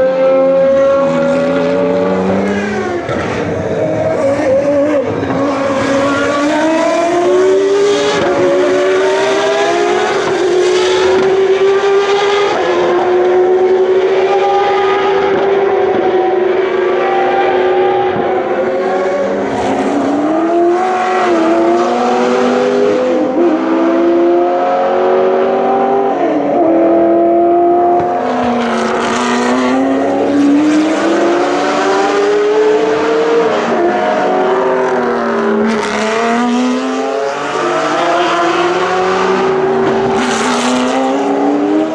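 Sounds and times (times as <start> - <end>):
racing car engines passing: 0.0 - 41.9.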